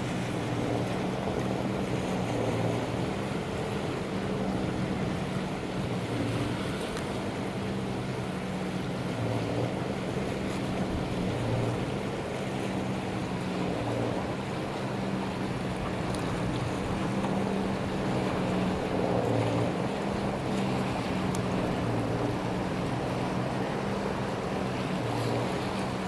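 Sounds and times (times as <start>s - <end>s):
ship machinery humming: 0.0s - 26.0s.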